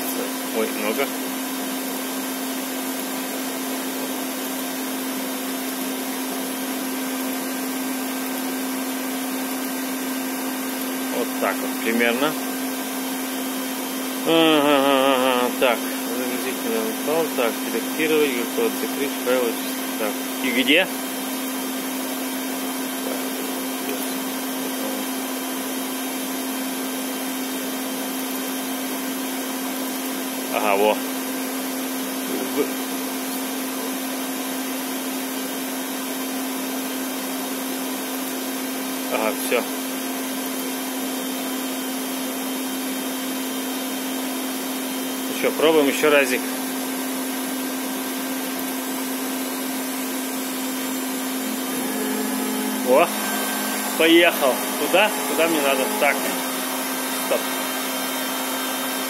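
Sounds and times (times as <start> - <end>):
machine humming and hissing: 0.0 - 59.0.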